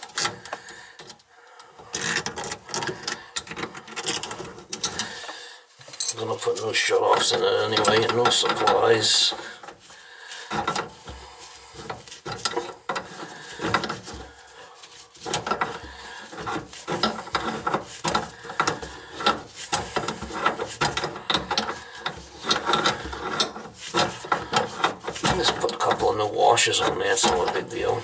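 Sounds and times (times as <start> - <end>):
wrench clicking and scraping metal: 0.0 - 28.0.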